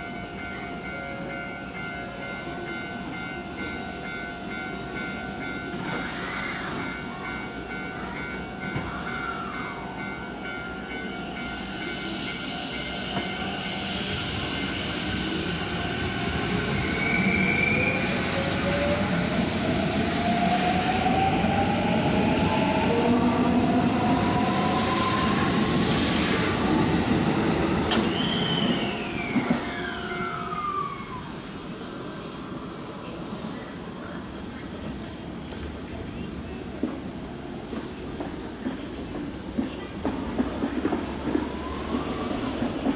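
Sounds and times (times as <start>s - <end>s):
rail and wheel noise: 0.0s - 42.9s.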